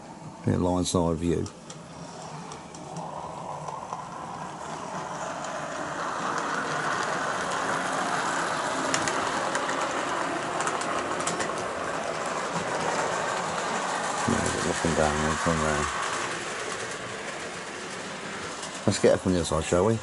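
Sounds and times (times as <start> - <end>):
model train motor whirring: 1.9 - 19.9.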